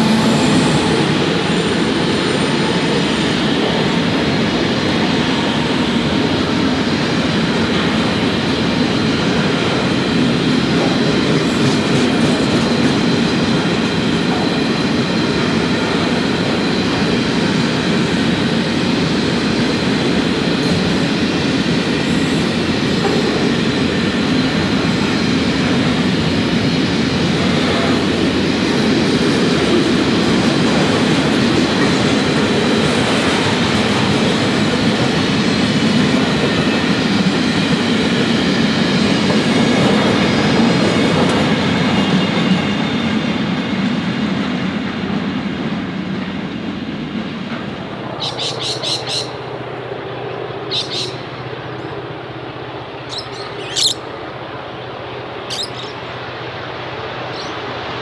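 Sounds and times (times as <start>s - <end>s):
freight wagons rumbling on rails: 0.0s - 58.0s.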